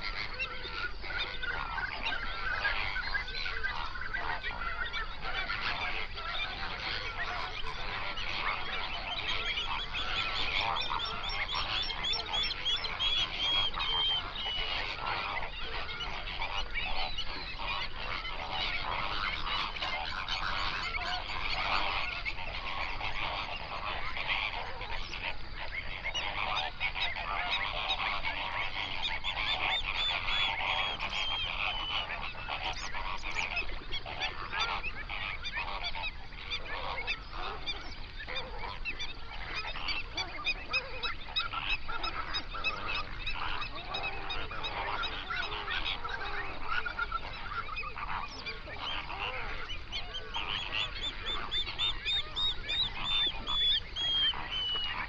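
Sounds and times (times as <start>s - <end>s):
flamingos honking: 0.0s - 55.0s.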